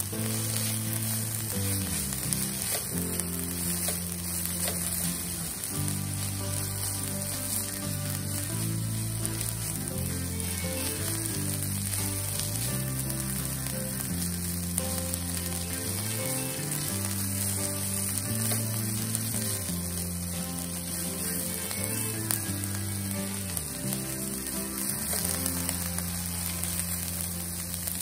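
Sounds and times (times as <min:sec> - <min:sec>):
greens sizzling in a pan: 0:00.0 - 0:28.0
soft background music: 0:00.0 - 0:28.0.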